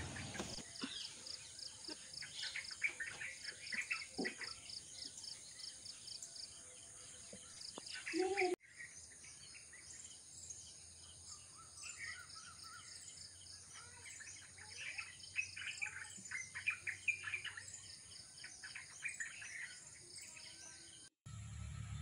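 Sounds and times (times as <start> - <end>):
small birds chirping: 0.0 - 21.1.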